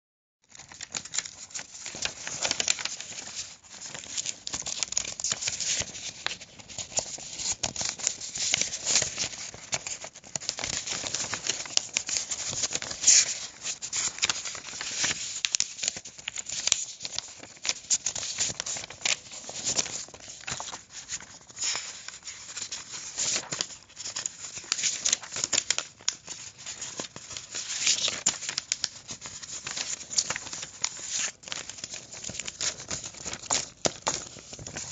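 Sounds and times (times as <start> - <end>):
paper being crumpled: 0.5 - 34.9.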